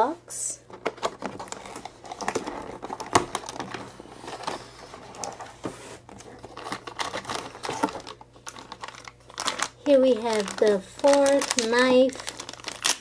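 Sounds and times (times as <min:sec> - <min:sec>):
packaging crinkling: 0:00.7 - 0:13.0.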